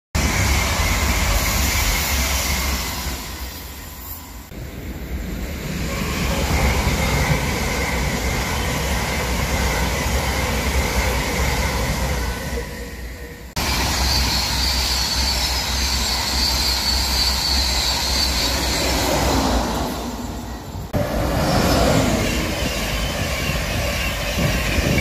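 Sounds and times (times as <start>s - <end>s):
high-speed trains passing: 0.2s - 25.0s.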